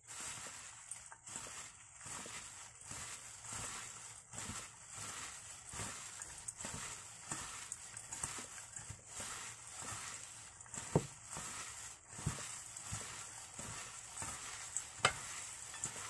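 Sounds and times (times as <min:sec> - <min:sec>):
wet squishing and rustling: 0:00.0 - 0:16.0.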